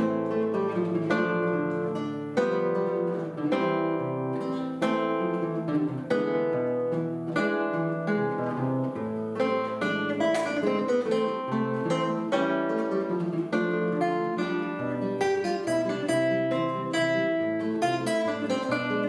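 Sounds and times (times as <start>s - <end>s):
plucked string duet: 0.0s - 19.0s.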